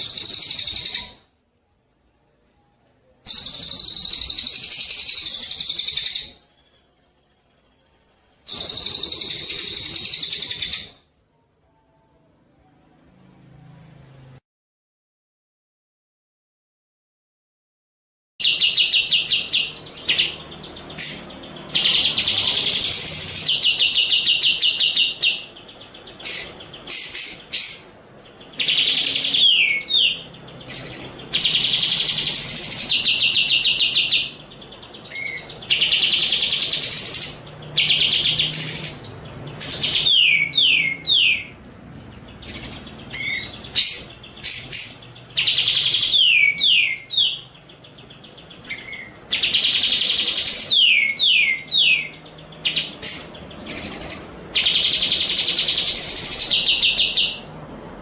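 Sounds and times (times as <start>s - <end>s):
songbird singing trills: 0.0s - 13.8s, 18.4s - 57.6s.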